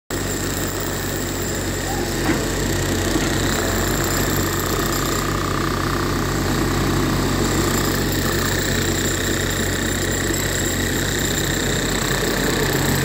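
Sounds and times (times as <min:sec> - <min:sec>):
excavator diesel engine running: 0:00.1 - 0:13.0.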